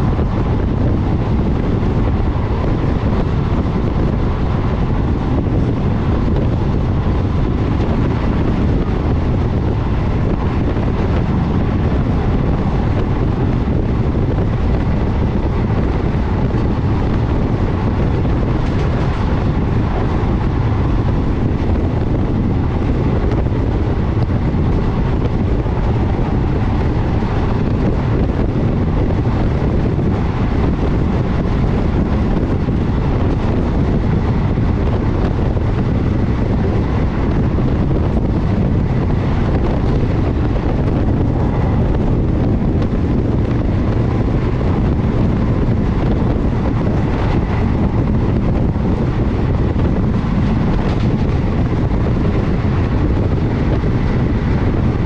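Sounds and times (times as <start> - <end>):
train rumbling at speed: 0.0 - 55.0
wind buffeting microphone: 0.0 - 55.0.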